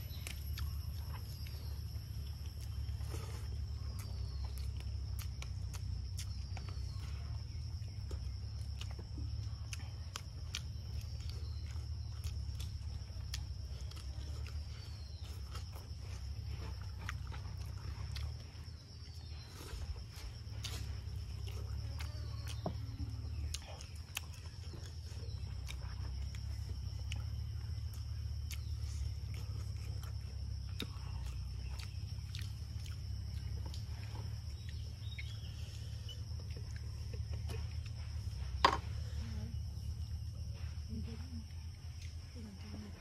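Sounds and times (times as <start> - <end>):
person chewing: 0.0 - 39.0, 41.4 - 42.3
low hum: 0.0 - 43.0.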